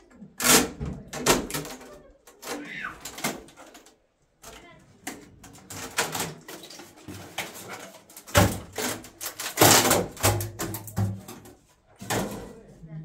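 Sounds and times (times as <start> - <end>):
knocking clattering and scraping: 0.0 - 12.7.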